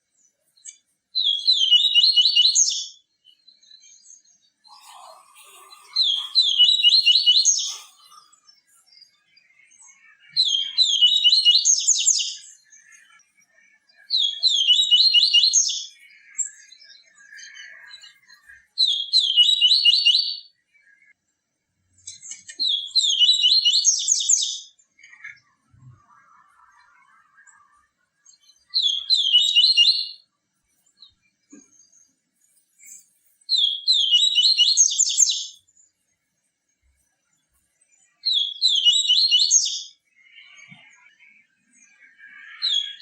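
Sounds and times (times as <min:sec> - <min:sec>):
seedeater bird singing: 0:00.0 - 0:21.1, 0:22.0 - 0:32.2, 0:32.8 - 0:36.0, 0:37.9 - 0:43.0.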